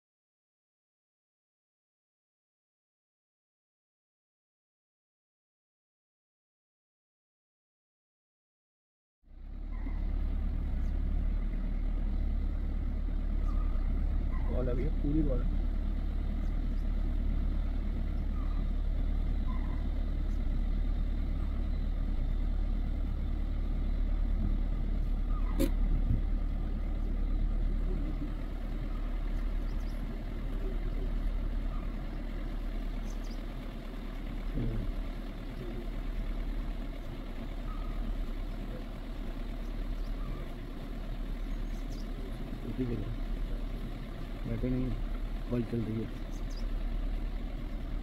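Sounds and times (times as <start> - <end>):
vehicle engine idling: 9.3 - 48.0.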